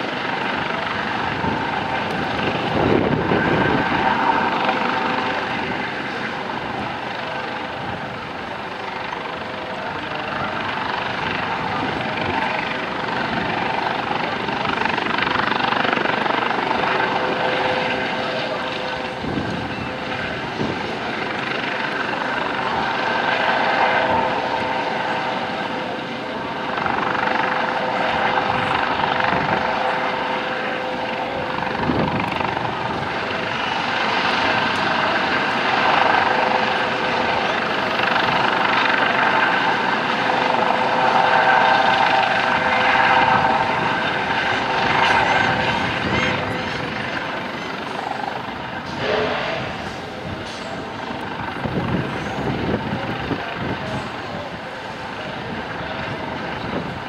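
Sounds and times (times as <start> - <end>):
helicopter rotor rush: 0.0 - 57.0
helicopter turbine whine: 0.0 - 57.0.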